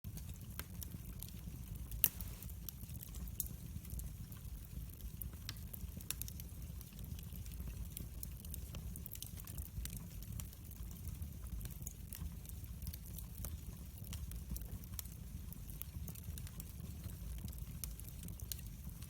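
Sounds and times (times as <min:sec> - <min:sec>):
low steady fire rumble: 0:00.0 - 0:19.0
wood fire crackling and popping: 0:00.1 - 0:19.0.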